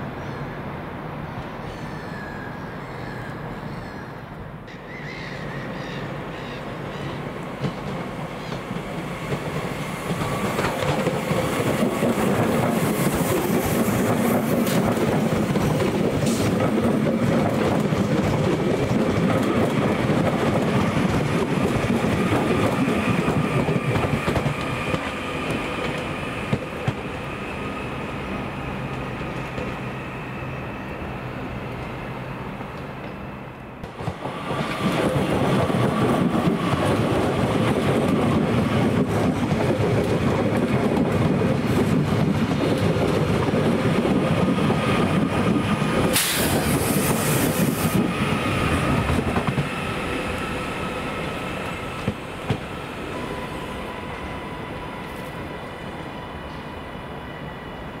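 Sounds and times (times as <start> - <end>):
passenger train running rumble: 0.0 - 58.0.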